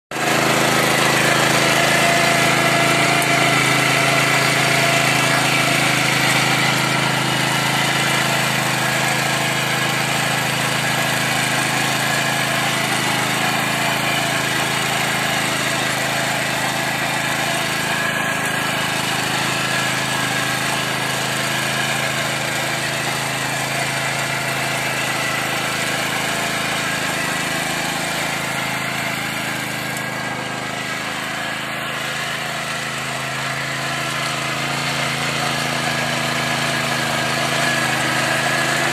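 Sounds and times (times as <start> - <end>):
power tiller engine running: 0.1 - 38.9
tines churning soil: 0.1 - 38.9.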